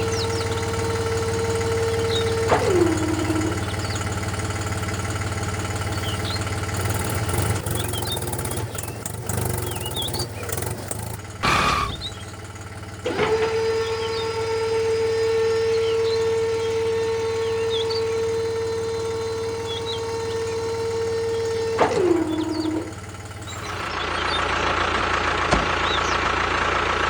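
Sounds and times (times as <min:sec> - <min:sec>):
small motor whining: 0:00.0 - 0:24.0
birds chirping: 0:00.0 - 0:24.7, 0:25.7 - 0:26.4.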